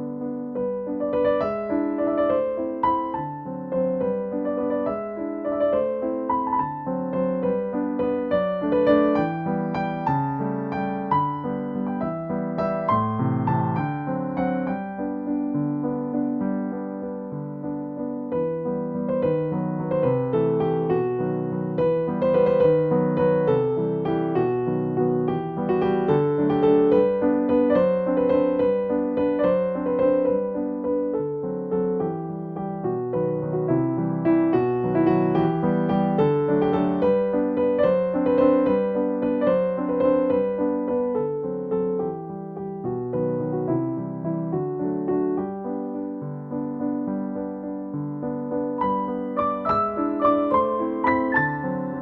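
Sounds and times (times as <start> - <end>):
gentle piano music: 0.0 - 52.0.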